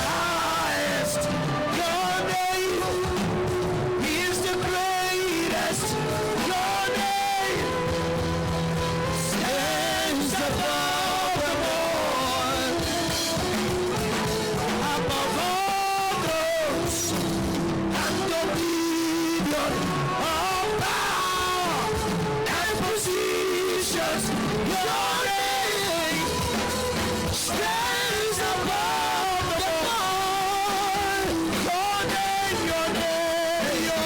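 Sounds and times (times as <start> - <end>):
band with guitar playing: 0.0 - 34.0.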